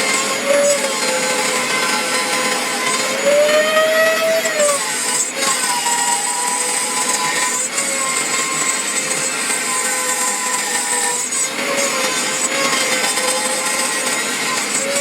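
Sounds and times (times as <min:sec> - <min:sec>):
motor whine changing pitch: 0:00.0 - 0:15.0
router spindle cutting hiss: 0:00.0 - 0:15.0.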